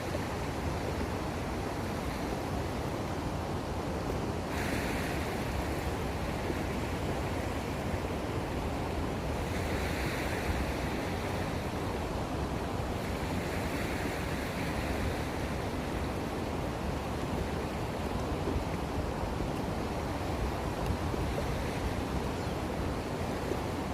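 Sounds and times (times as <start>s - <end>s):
sea waves washing on shore: 0.0s - 23.9s
wind rumbling on microphone: 0.0s - 23.9s.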